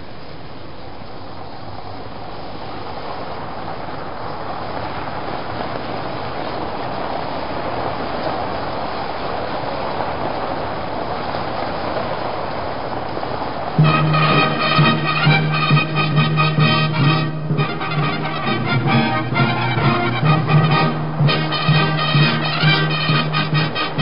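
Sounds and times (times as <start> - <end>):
cars rolling over paving stones: 0.0 - 24.0.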